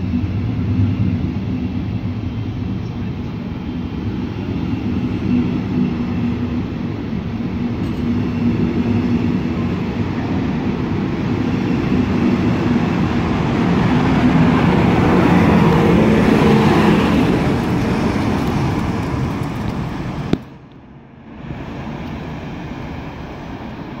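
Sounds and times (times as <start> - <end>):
locomotive motor hum: 0.0 - 24.0.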